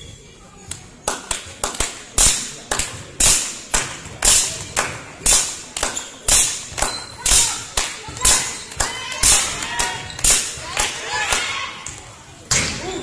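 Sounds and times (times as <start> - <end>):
spectators beating rhythm: 1.0 - 12.1.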